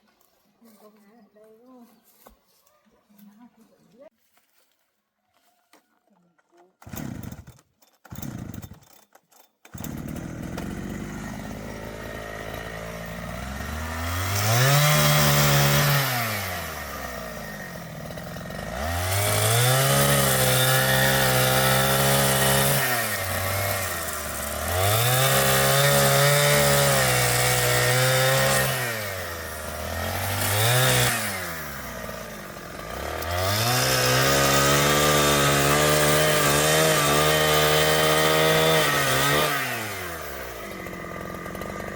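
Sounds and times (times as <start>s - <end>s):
chainsaw revving and idling: 6.8s - 41.9s.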